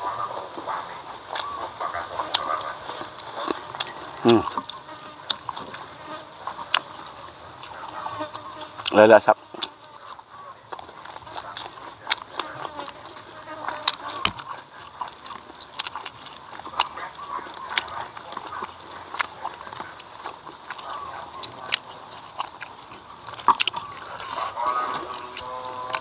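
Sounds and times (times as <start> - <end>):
person chewing with lip-smacks: 0.0 - 26.0.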